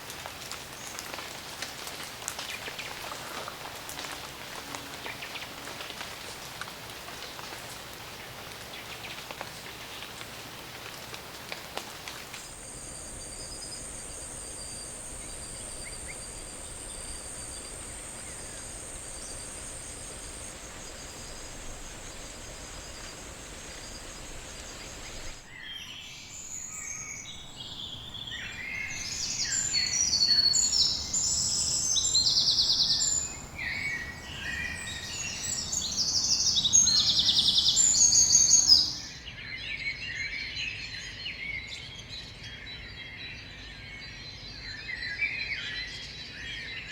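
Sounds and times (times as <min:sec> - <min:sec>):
steady hiss: 0:00.0 - 0:38.8.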